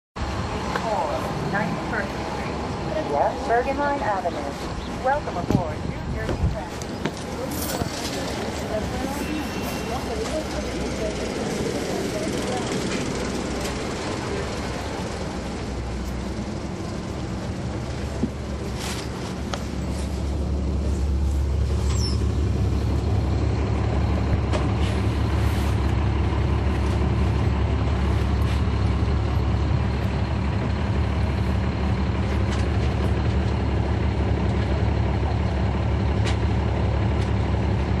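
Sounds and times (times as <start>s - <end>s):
bus diesel engine running: 0.2s - 38.0s.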